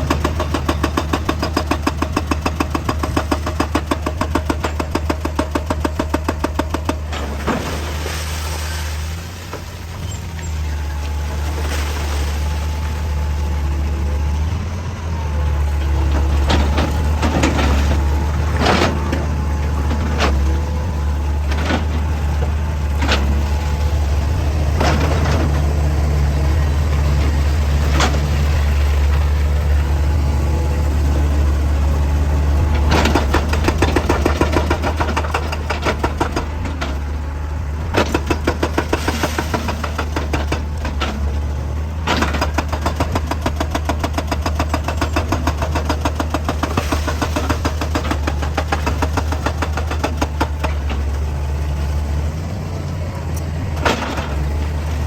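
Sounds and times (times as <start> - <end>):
excavator engine humming: 0.0 - 55.0.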